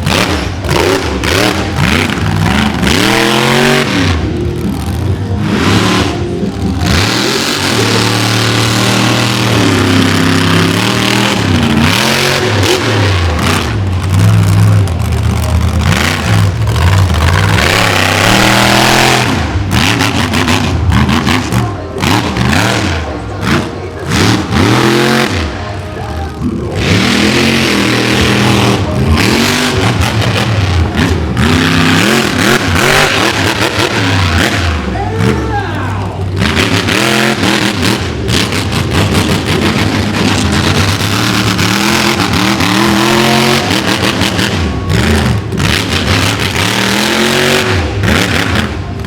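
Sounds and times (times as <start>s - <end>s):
monster truck engine revving: 0.0s - 49.0s.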